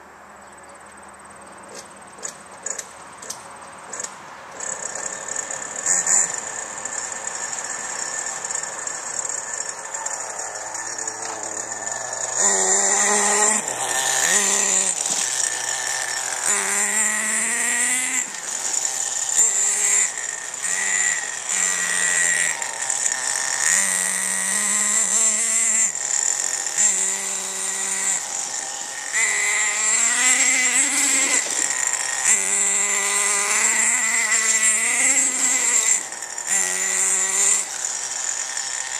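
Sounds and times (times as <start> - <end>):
radio-controlled car motor revving: 1.7 - 38.9.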